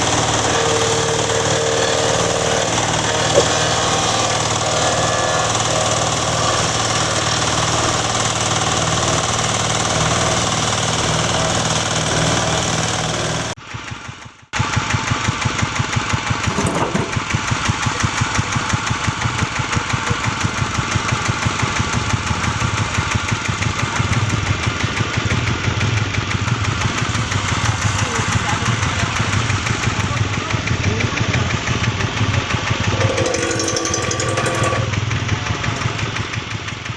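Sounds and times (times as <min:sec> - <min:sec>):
engine thumping: 0:00.0 - 0:36.9
wood crusher machine running: 0:00.0 - 0:36.9.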